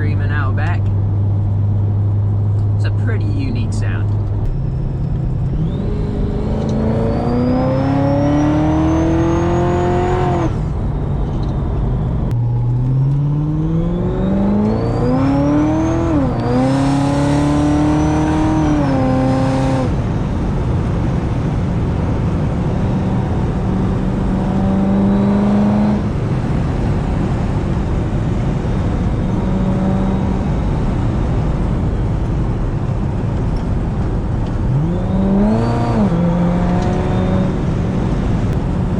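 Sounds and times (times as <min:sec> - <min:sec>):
car engine accelerating hard: 0:00.0 - 0:38.9
supercharger whine: 0:00.0 - 0:38.9.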